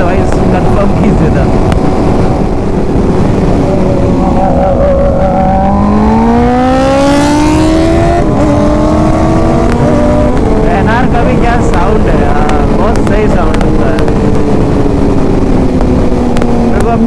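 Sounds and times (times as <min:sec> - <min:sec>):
heavy wind rush: 0:00.0 - 0:17.0
motorcycle engine accelerating: 0:00.0 - 0:17.0.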